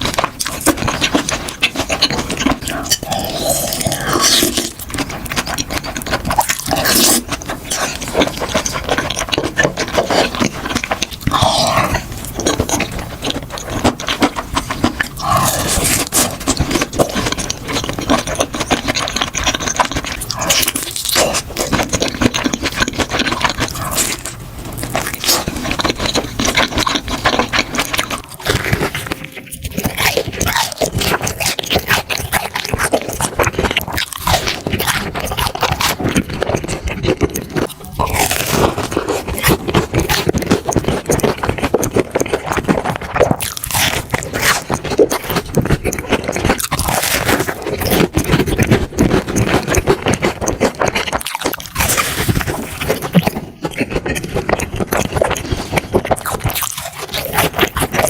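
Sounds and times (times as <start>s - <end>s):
crunchy food being chewed: 0.0s - 58.0s.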